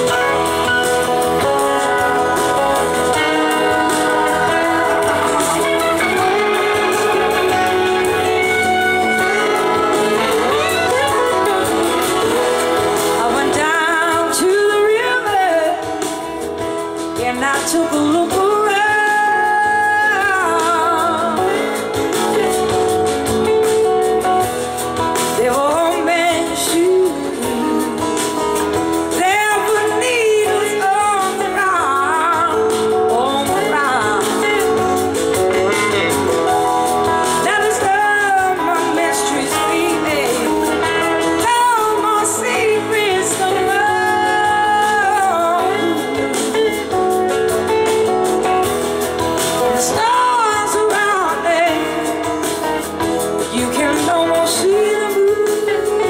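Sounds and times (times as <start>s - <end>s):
blues rock band playing: 0.0s - 56.0s
electric slide guitar: 0.0s - 56.0s.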